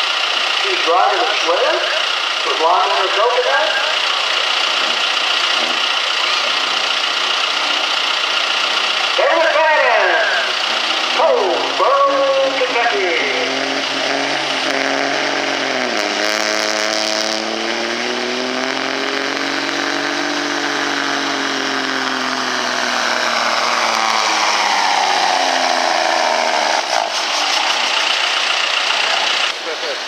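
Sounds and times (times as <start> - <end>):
diesel truck engine at full throttle: 0.0 - 30.0.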